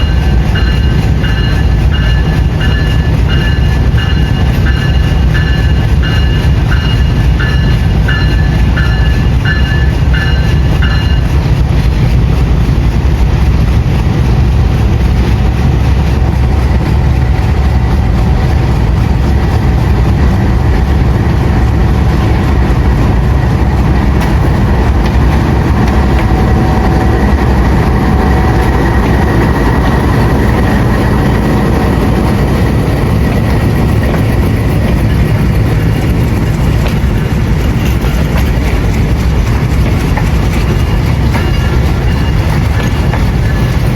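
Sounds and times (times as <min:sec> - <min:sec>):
train rumbling on rails: 0:00.0 - 0:43.9.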